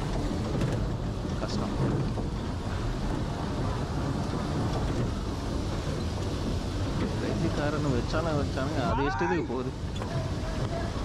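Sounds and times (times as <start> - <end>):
bumper cars rumbling: 0.0 - 11.0.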